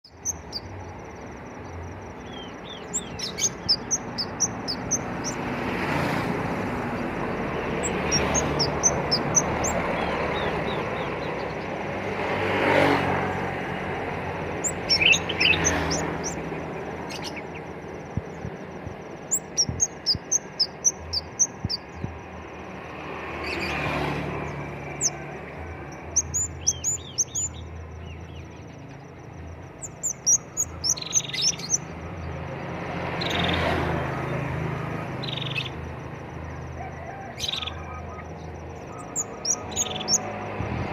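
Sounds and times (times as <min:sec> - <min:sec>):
songbird chirping: 0:00.0 - 0:40.9
rushing background noise: 0:00.1 - 0:40.9.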